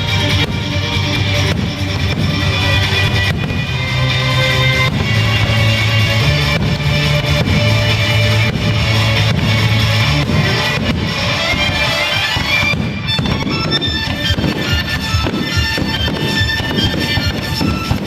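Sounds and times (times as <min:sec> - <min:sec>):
rock music with drums and guitar: 0:00.0 - 0:18.0.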